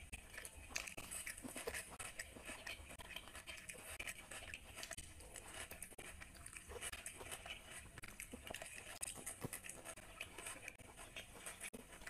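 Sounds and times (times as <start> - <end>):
person chewing with mouth clicks: 0.0 - 12.0.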